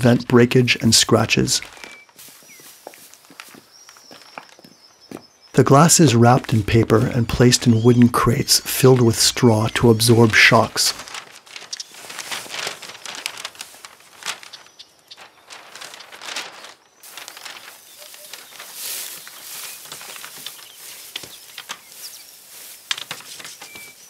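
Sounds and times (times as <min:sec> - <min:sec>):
paper rustling and crinkling: 0:00.1 - 0:04.7, 0:06.2 - 0:24.0.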